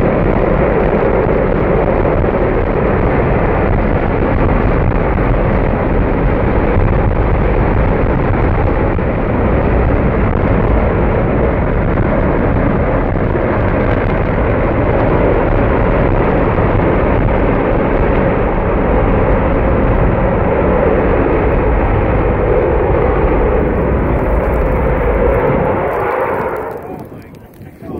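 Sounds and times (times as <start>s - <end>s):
rocket motor roaring: 0.0s - 27.9s.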